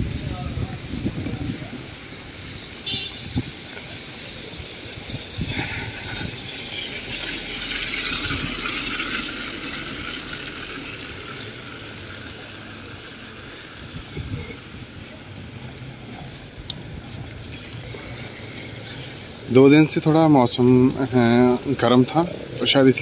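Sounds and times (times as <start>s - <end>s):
rain on wet street: 0.0s - 23.0s
tyres hissing on wet road: 0.0s - 23.0s.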